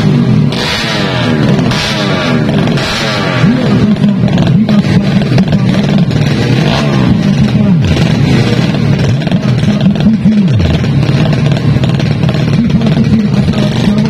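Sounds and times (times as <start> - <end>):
motorbike engines revving: 0.0 - 14.0.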